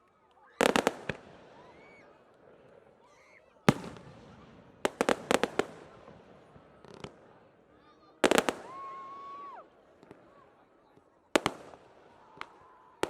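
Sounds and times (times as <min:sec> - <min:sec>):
fireworks bangs: 0:00.6 - 0:02.9, 0:03.7 - 0:07.4, 0:08.2 - 0:13.0.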